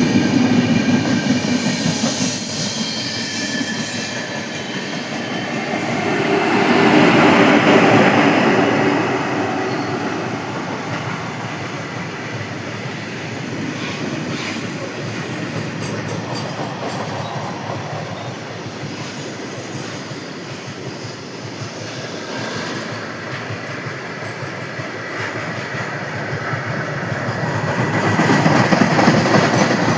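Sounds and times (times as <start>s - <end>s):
train rumbling along track: 0.0s - 29.9s.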